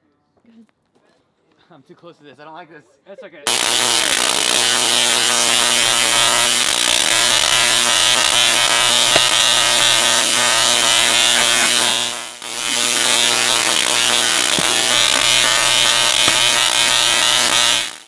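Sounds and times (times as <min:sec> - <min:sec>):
tesla coil arcs buzzing and crackling: 0:03.5 - 0:18.0.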